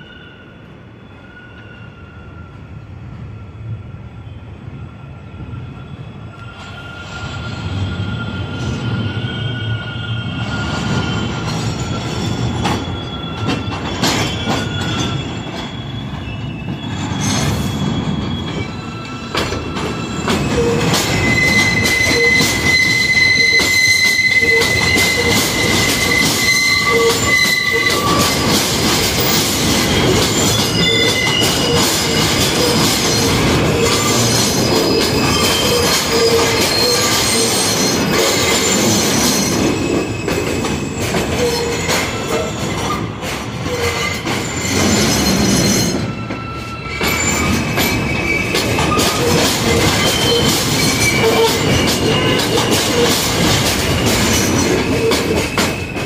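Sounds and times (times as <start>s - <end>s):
steel wheels squealing: 0.0s - 56.0s
train rumbling on elevated track: 0.0s - 56.0s.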